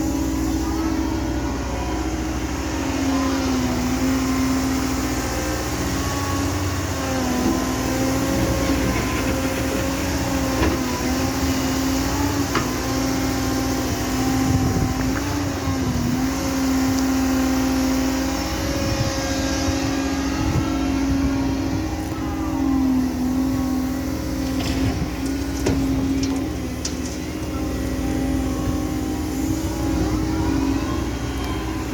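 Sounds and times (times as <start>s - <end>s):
excavator engine and hydraulics whine: 0.0s - 31.9s.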